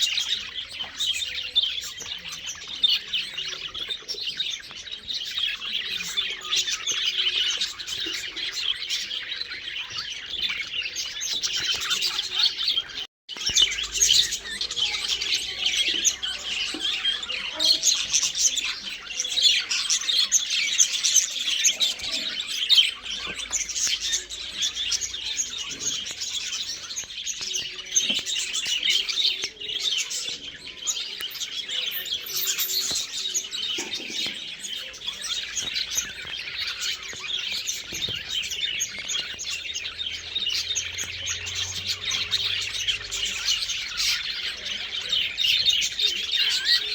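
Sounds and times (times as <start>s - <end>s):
flock of birds chattering: 0.0s - 46.9s.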